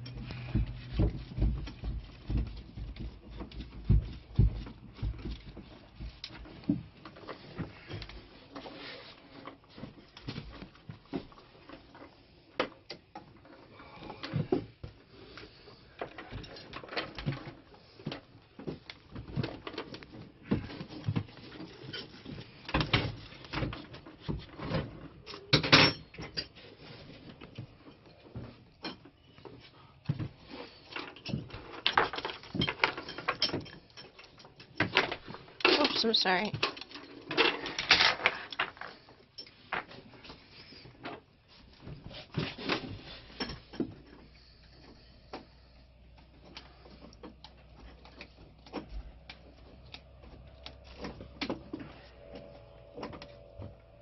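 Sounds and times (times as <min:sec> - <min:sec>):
clatter of tools and parts: 0:00.0 - 0:54.0.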